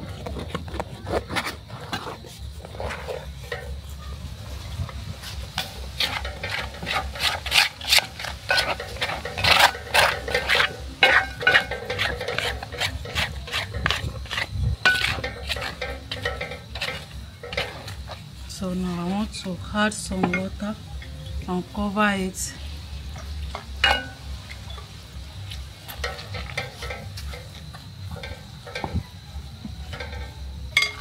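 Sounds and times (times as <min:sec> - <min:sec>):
utensil knocking and scraping pot: 0:00.0 - 0:21.1, 0:25.5 - 0:31.0.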